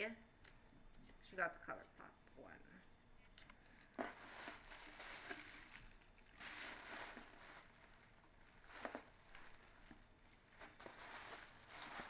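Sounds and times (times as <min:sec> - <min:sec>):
faint rustling of packaging: 0:00.5 - 0:12.0.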